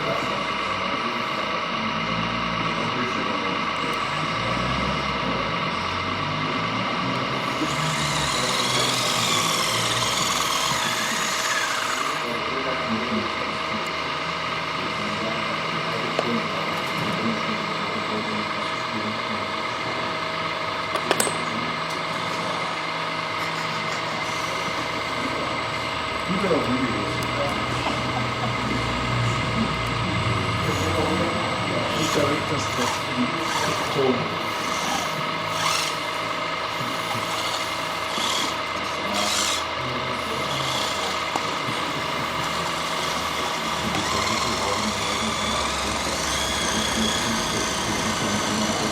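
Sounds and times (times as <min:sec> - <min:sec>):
electric motor and pump whine: 0:00.0 - 0:48.9.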